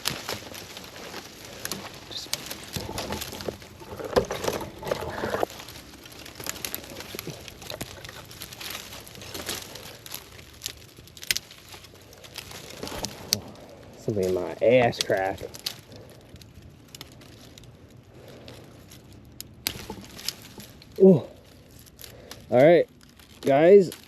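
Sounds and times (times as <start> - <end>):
twigs rustling and snapping: 0.0 - 24.0.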